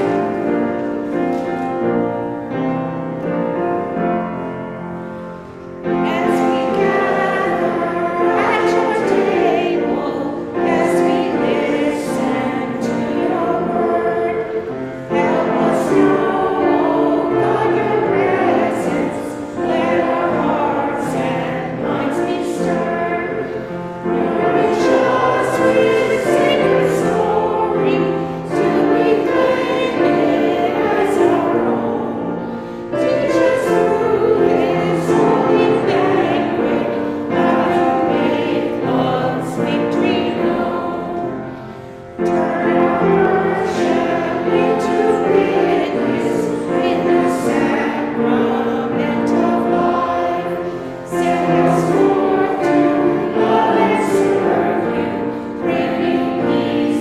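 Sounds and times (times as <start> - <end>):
congregation singing a hymn: 0.0 - 57.0
piano accompaniment: 0.0 - 57.0.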